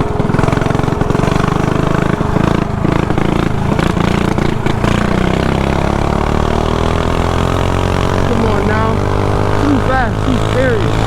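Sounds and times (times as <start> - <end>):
mini bike engine revving: 0.0 - 11.0.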